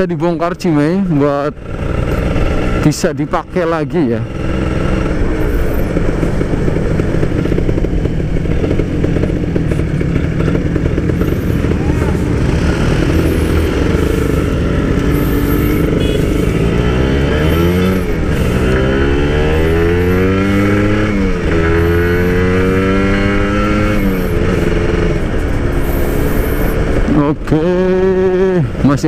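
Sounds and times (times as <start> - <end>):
two-stroke motorcycle accelerating: 0.0 - 29.0.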